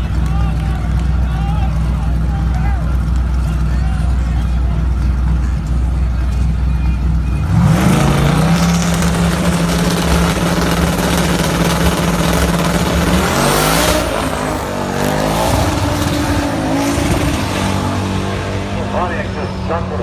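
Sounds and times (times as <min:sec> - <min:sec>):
drag car engine at full throttle: 0:00.0 - 0:20.0.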